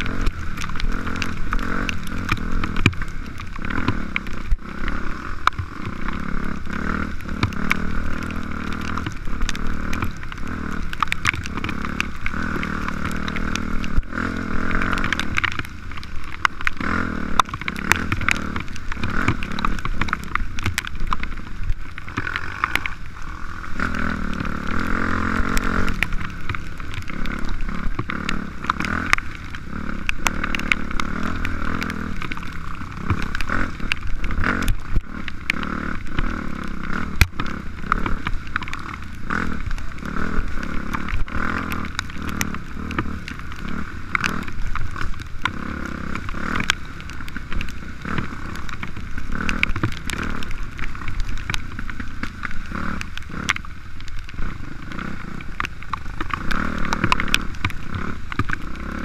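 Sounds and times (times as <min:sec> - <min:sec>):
dirt bike engine revving: 0:00.0 - 0:53.7, 0:54.4 - 0:59.0.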